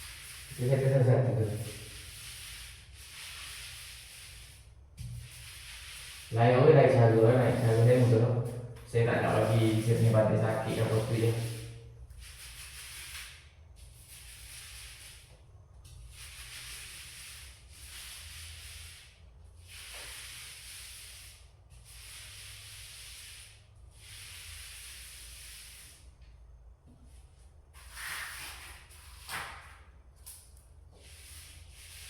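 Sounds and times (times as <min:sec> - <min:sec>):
paint rubbing strokes on wall: 0:00.0 - 0:32.0.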